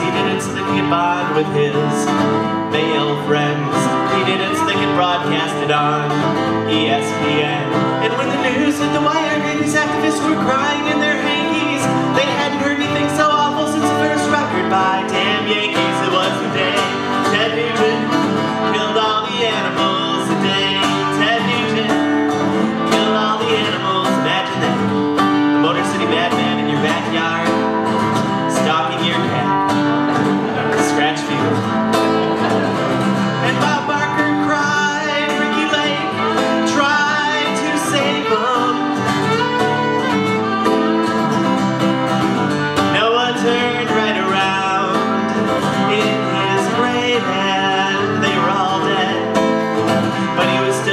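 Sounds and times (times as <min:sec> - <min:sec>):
acoustic guitar strumming: 0:00.0 - 0:50.9
fiddle playing: 0:00.0 - 0:50.9.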